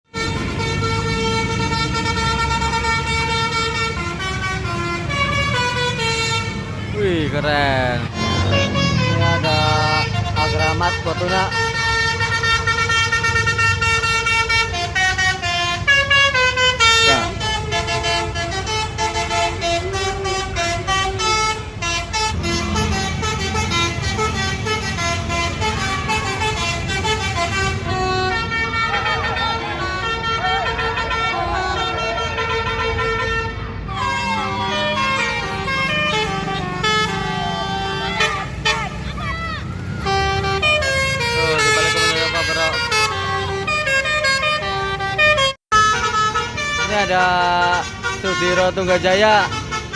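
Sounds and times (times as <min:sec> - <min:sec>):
musical bus horn melody: 0:00.0 - 0:49.9
bus engine rumble: 0:00.1 - 0:49.9.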